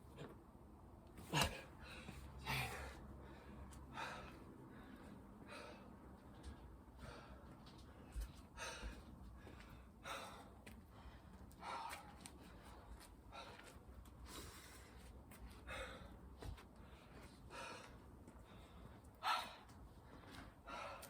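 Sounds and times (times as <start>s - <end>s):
person breathing hard: 1.3s - 21.0s.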